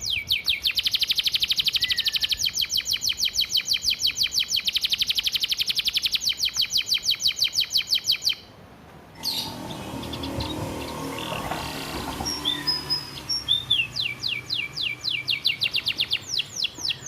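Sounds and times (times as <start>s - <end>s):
canary trilling: 0.0s - 8.5s, 9.2s - 17.0s
high bird chirps: 0.0s - 8.5s, 9.2s - 17.0s.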